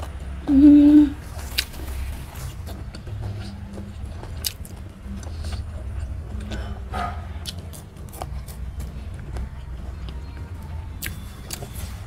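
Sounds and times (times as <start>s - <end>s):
steady low hum: 0.0s - 12.0s
chewing with wet mouth clicks: 1.4s - 11.9s.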